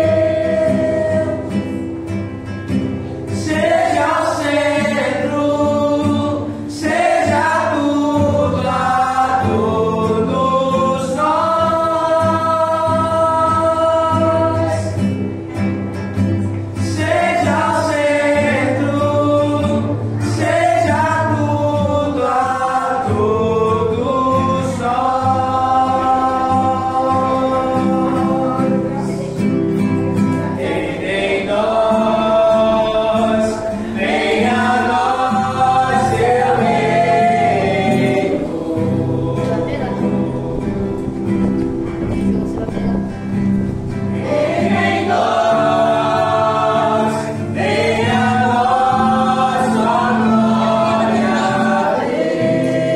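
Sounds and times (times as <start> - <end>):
acoustic guitar: 0.0 - 52.9
people singing worship song: 0.0 - 52.9.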